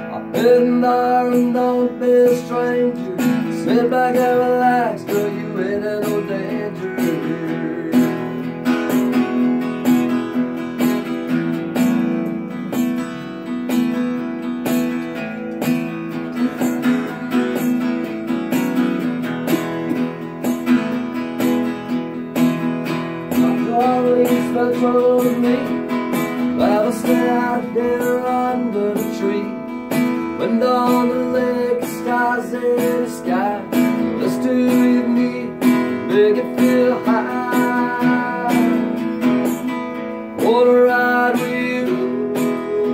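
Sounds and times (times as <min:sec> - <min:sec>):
acoustic guitar strumming: 0:00.0 - 0:42.9
guitar lead lines with bent notes: 0:00.0 - 0:42.9.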